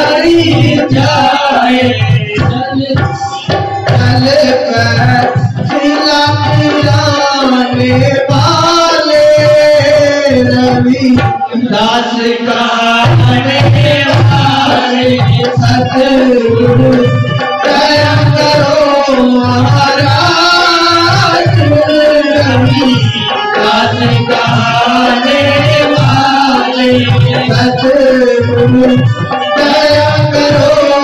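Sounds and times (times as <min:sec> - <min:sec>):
hand drum beat: 0:00.0 - 0:31.0.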